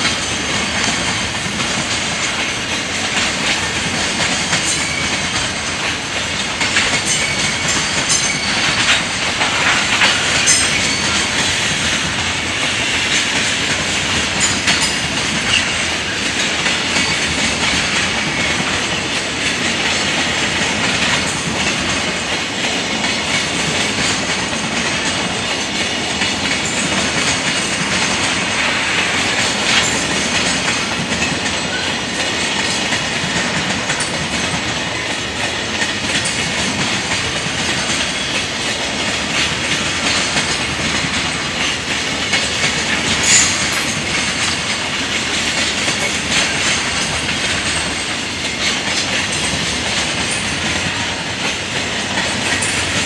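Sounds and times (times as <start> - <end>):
freight train wagons rolling: 0.0 - 53.0
wheels clacking over rail joints: 0.0 - 53.0.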